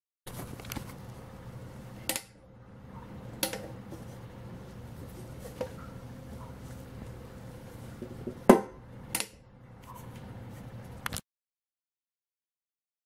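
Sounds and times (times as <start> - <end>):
low steady hum: 0.3 - 11.2.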